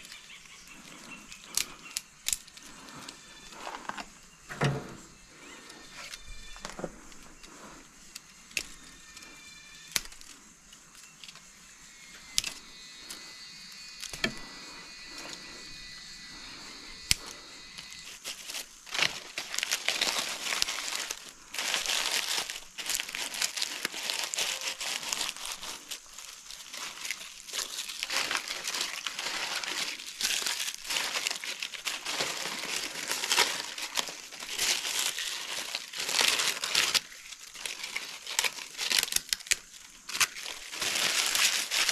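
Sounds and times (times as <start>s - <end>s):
dry twigs snapping: 0.0s - 3.0s, 5.7s - 11.5s, 14.0s - 15.5s, 17.0s - 41.9s
dry leaves crumpled by hand: 0.0s - 4.0s, 12.2s - 41.9s.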